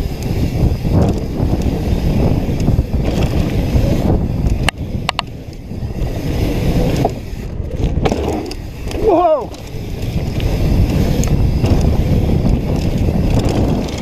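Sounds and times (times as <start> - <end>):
bike rattling clicks: 0.0 - 14.0
bike tyres rolling on dirt: 0.0 - 14.0
wind on microphone: 0.0 - 14.0.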